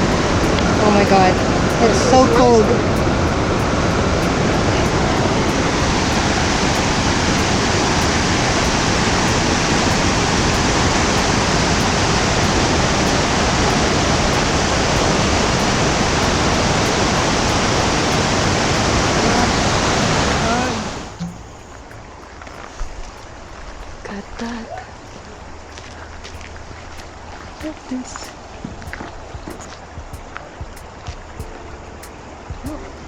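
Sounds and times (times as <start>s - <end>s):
fast water rushing: 0.0s - 33.0s.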